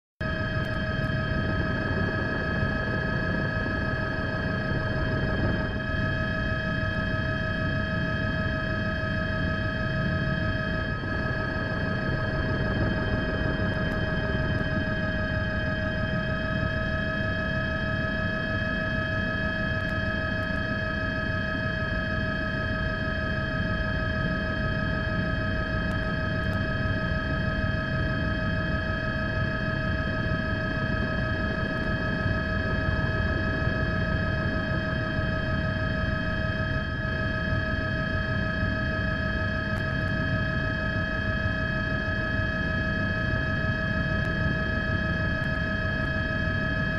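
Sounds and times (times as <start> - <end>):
constant whining tones: 0.2 - 46.9.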